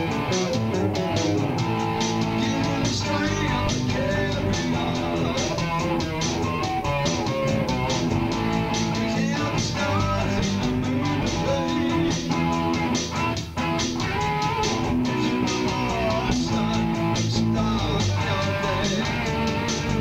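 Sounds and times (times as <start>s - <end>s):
guitar over bass line: 0.0s - 20.0s.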